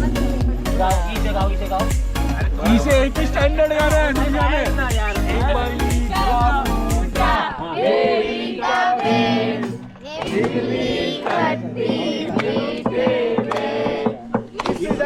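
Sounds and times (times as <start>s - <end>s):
music with wavering singing voices: 0.0s - 14.4s.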